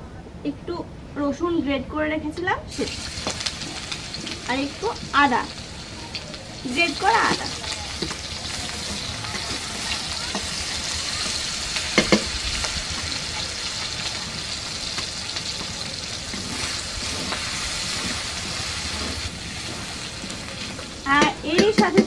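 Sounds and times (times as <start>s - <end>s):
garlic sizzling in hot oil: 2.7s - 22.0s.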